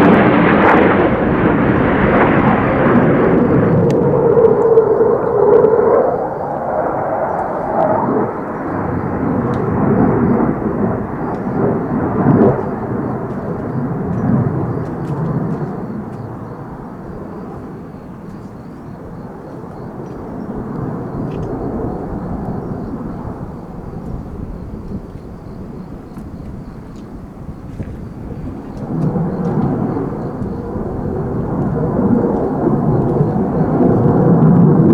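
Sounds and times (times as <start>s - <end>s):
jet aircraft roaring past: 0.0s - 34.9s.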